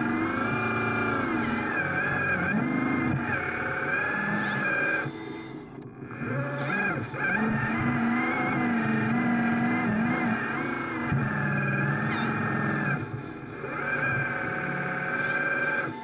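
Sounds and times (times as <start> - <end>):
model motor whine: 0.0 - 16.0.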